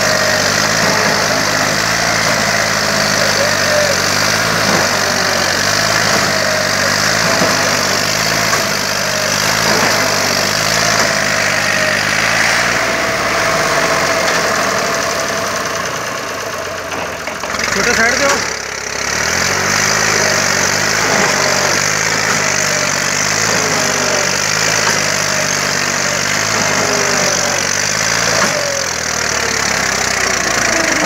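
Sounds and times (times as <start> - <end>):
tractor diesel engine straining: 0.0 - 31.0.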